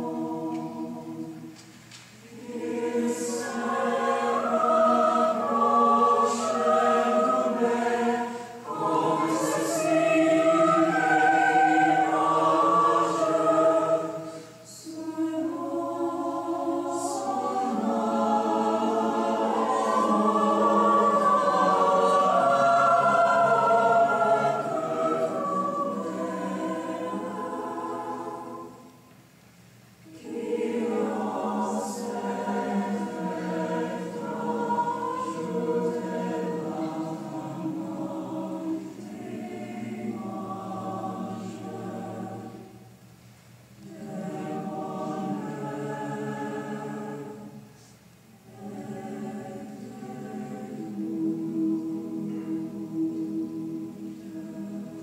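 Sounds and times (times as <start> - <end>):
choir singing sustained chords: 0.0 - 55.0.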